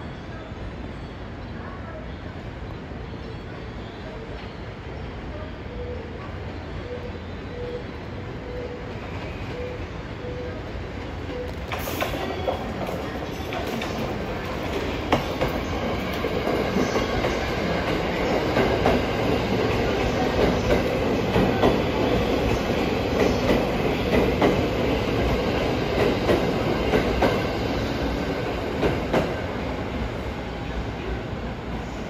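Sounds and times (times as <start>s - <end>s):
train rolling rumble: 6.0s - 32.0s.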